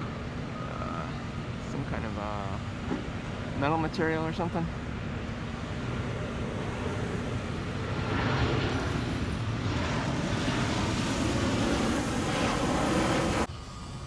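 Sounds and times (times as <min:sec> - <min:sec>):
airplane engine roar: 0:00.0 - 0:14.0.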